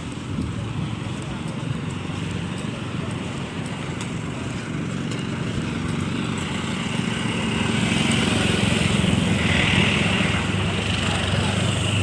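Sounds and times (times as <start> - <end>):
small engine running: 1.2 - 12.0.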